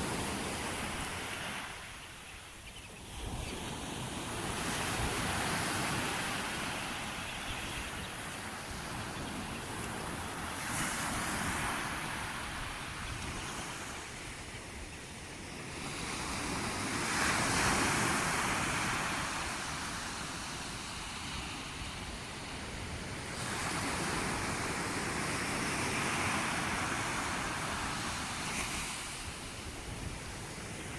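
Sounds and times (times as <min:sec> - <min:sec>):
sea waves breaking on shore: 0:00.0 - 0:02.0, 0:03.0 - 0:14.4, 0:15.4 - 0:30.9.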